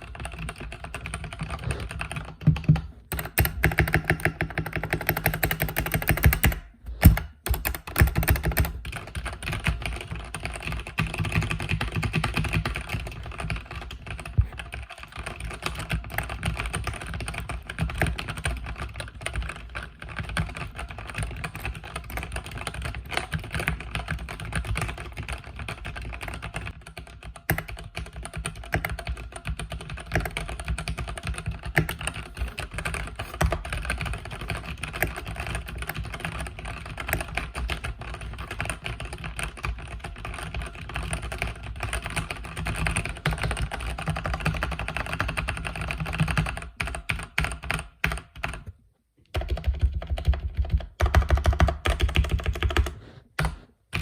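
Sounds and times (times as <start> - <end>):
fast typing on mechanical keyboard: 0.0 - 54.0.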